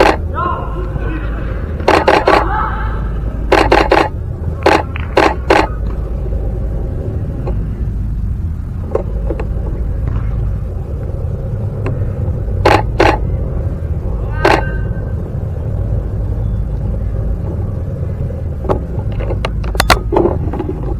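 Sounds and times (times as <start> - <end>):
steady low rumble: 0.0 - 20.9.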